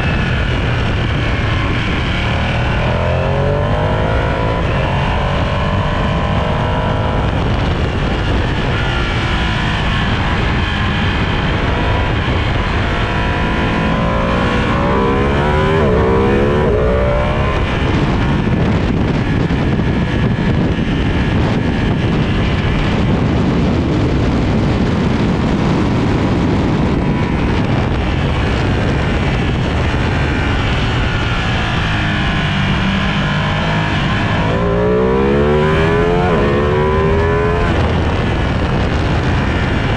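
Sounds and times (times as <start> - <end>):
motorcycle engine accelerating: 0.0 - 39.9
steady noise: 0.0 - 39.9.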